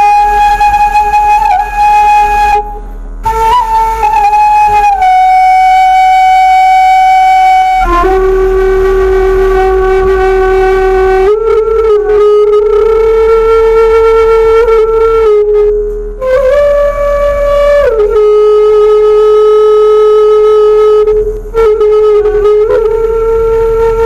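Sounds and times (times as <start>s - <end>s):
bamboo flute notes: 0.0s - 24.0s.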